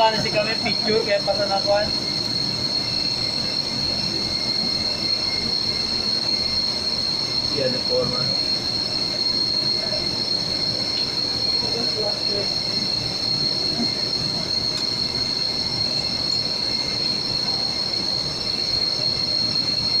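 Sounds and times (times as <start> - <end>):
high-pitched whine: 0.0 - 20.0.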